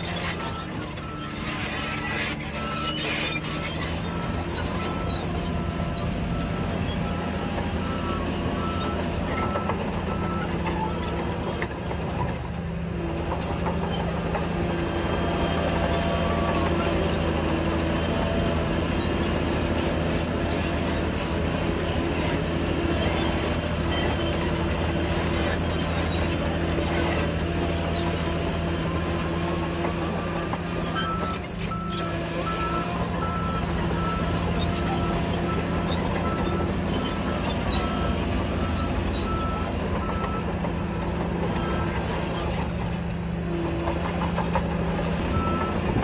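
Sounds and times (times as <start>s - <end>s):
bulldozer diesel engine running: 0.0s - 46.0s
heavy machinery clatter: 0.0s - 46.0s.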